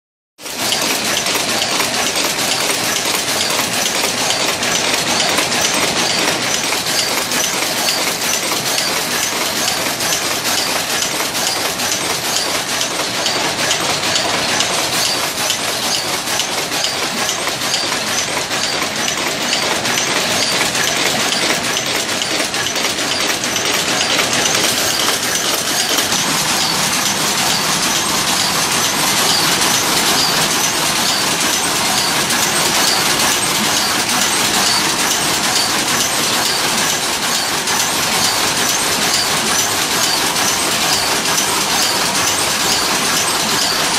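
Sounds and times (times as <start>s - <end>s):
power loom clattering: 0.4s - 43.9s.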